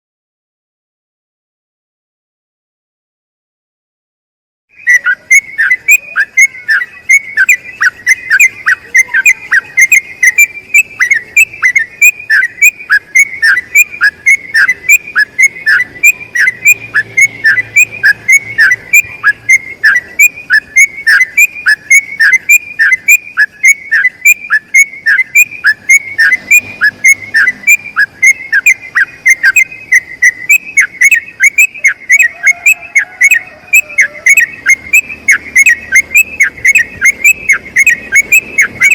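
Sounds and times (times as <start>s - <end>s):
bird whistling descending notes: 4.7s - 38.9s.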